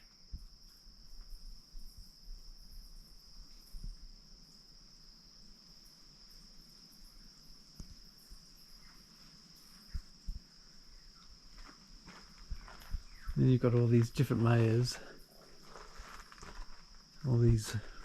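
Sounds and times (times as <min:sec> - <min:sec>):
night insects chorus: 0:00.0 - 0:18.0.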